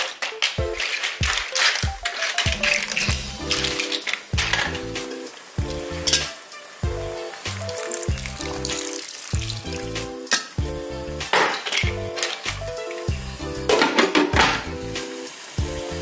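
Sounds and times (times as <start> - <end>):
clams sizzling in a frying pan: 0.8 - 16.0
background music with bass line: 2.4 - 16.0.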